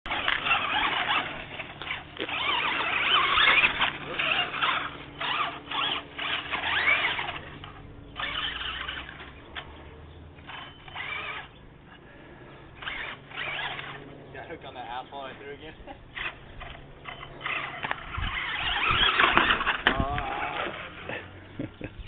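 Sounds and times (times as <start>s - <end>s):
radio-controlled car whining: 0.1s - 22.0s.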